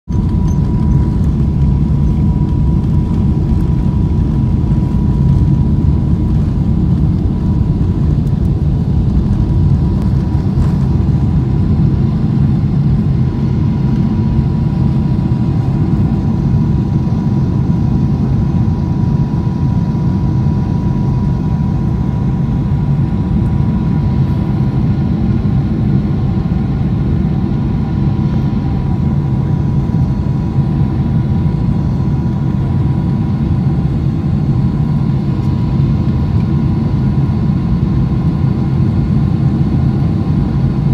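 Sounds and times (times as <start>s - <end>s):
jet engine whine: 0.1s - 40.9s
jet engines rumbling: 0.1s - 40.9s.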